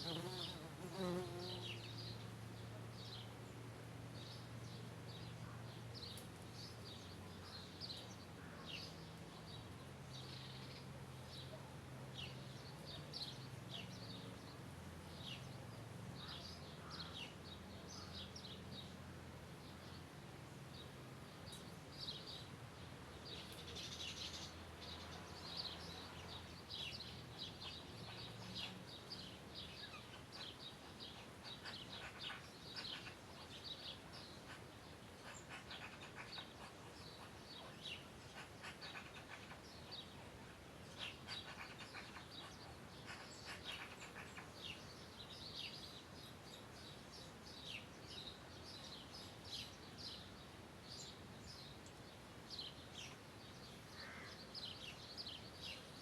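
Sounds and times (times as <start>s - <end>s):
soft outdoor background noise: 0.0s - 56.0s
songbirds chirping: 0.0s - 56.0s.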